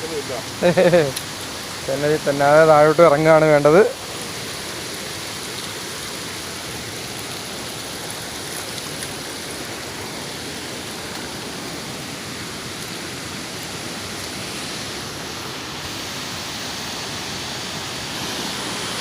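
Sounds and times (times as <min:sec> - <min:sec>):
strong wind: 0:00.0 - 0:19.0
waterfall rushing: 0:00.0 - 0:19.0.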